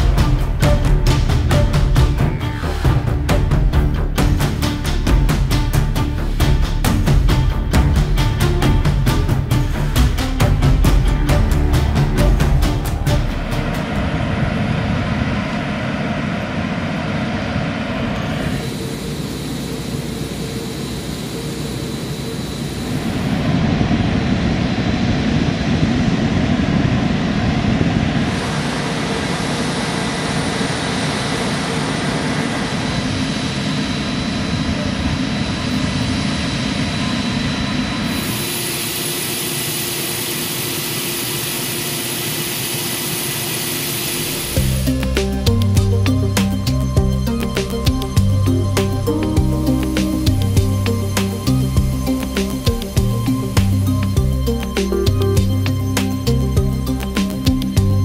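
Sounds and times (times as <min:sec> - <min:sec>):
faint steady whines: 0:00.0 - 0:58.0
jet engine rush: 0:00.0 - 0:58.0.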